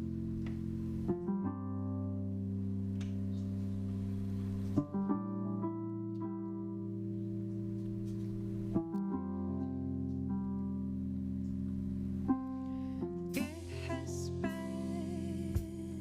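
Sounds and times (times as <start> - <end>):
keyboard sustained chords: 0.0 - 16.0.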